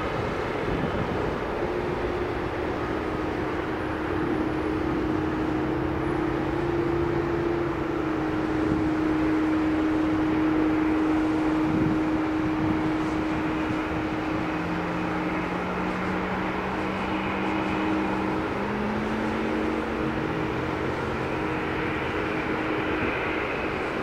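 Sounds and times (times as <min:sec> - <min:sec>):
jet engines idling: 0:00.0 - 0:24.0
low hum: 0:00.0 - 0:24.0.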